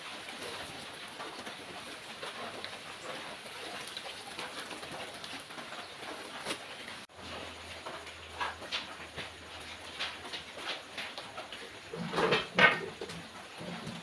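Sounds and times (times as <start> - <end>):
rain on concrete: 0.0 - 14.0.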